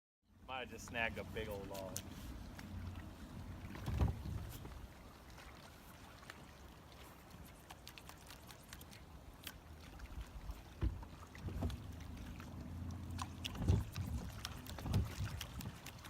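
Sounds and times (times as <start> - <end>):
low steady hum: 0.3 - 7.0, 8.8 - 16.0
waves slapping boat hull: 0.5 - 16.0.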